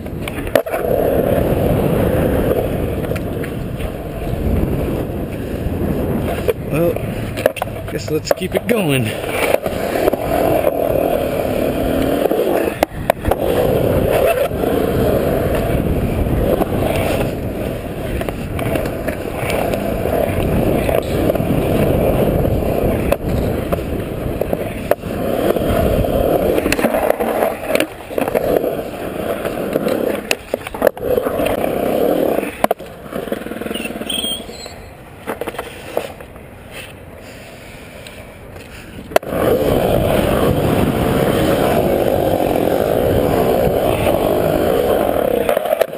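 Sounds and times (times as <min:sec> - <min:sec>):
skateboard clacks: 0:00.0 - 0:37.1, 0:38.0 - 0:45.9
skateboard wheels rolling on concrete: 0:00.0 - 0:45.9.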